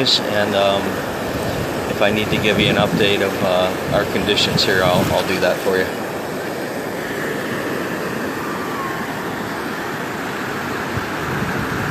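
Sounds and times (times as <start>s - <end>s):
surf breaking on beach: 0.0s - 11.9s.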